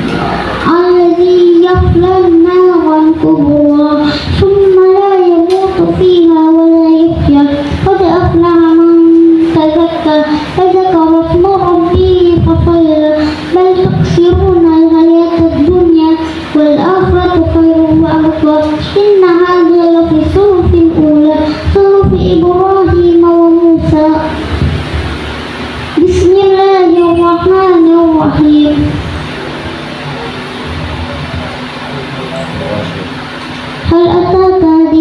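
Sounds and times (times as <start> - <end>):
boy chanting melodic recitation: 0.1 - 25.2, 25.9 - 29.2, 32.2 - 35.0.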